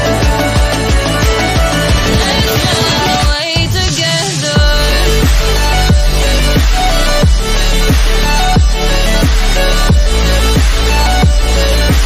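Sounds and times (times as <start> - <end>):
electronic pop music: 0.0 - 12.0
heavy bass and drums: 0.0 - 12.0.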